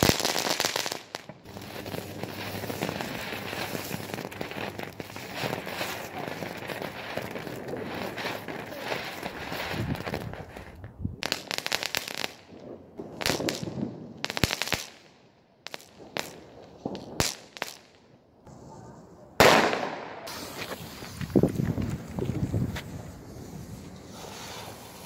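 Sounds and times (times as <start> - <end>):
fireworks cracking bangs: 0.0 - 18.6, 19.4 - 25.0.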